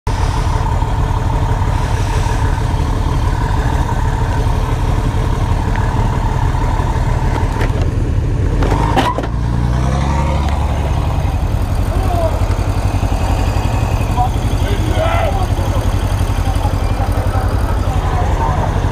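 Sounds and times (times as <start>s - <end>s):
motorcycle engine running: 0.1s - 18.9s.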